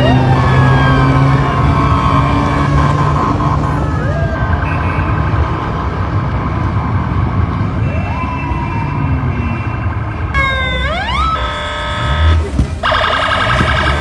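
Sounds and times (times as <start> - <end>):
police sirens wailing: 0.0 - 14.0
street traffic rumble: 0.0 - 14.0.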